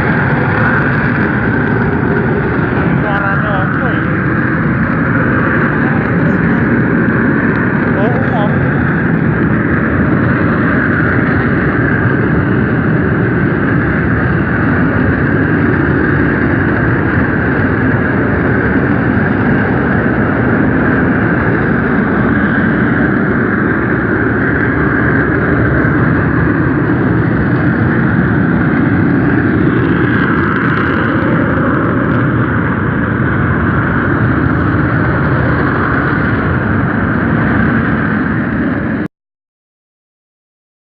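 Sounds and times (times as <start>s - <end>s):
volcano venting gas rumble: 0.0s - 39.1s.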